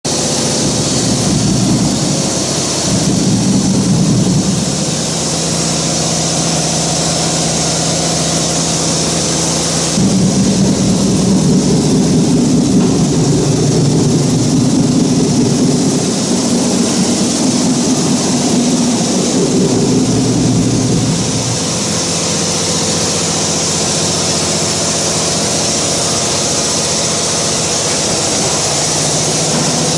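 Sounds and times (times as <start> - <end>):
machine hum: 0.0 - 29.9.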